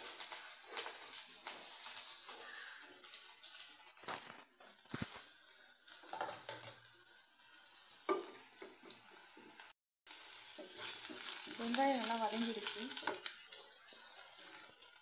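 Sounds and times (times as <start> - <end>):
onion sizzling in oil: 0.0 - 15.0
wooden spatula scraping a pan: 0.0 - 15.0.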